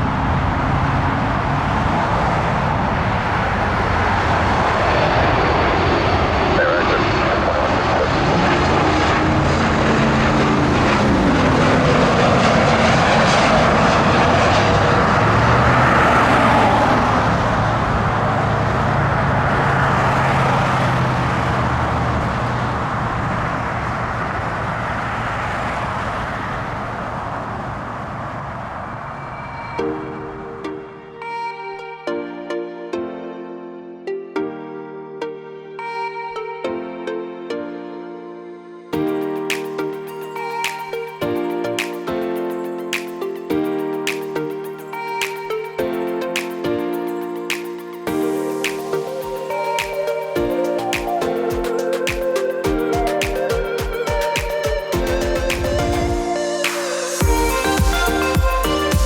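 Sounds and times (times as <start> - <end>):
jet airliner engines passing: 0.0 - 31.4, 38.9 - 58.8.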